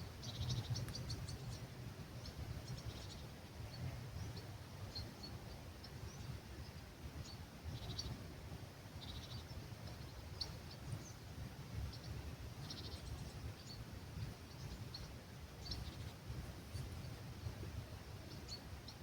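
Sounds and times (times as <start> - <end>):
low rumble of breeze: 0.0 - 19.0
small birds chirping: 0.1 - 8.2, 8.9 - 19.0.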